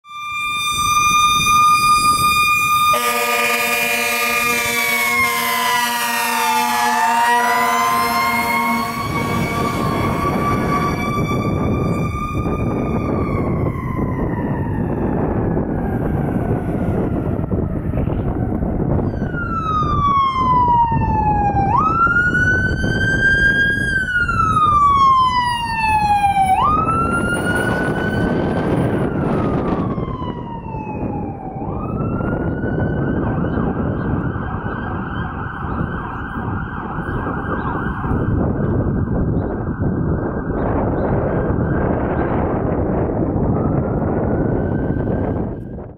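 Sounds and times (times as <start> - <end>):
ambulance wail siren: 0.0 - 45.9
fire engine siren sliding down: 0.0 - 45.9
diesel engine and road noise: 0.1 - 45.9.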